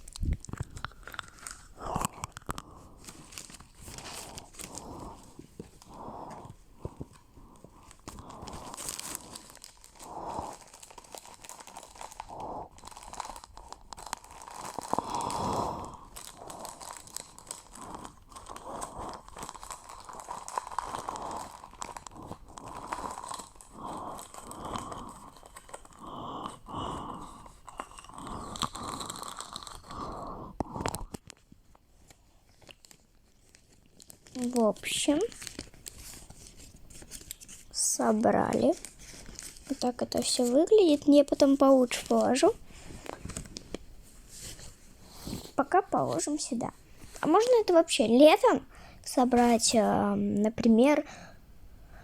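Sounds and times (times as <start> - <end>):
bags and packaging rustling: 0.0 - 47.9.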